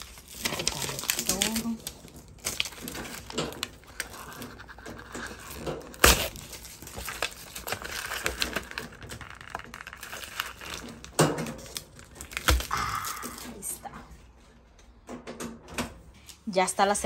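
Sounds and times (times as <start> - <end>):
plastic wrapping crinkling and tearing: 0.0 - 13.9.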